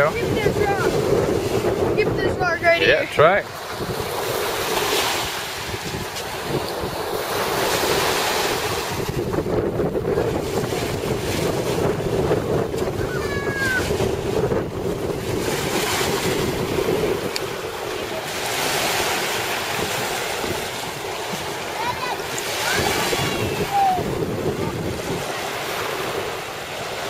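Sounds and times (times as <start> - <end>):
waves washing on gravel shore: 0.0 - 27.0
wind on microphone: 0.0 - 27.0.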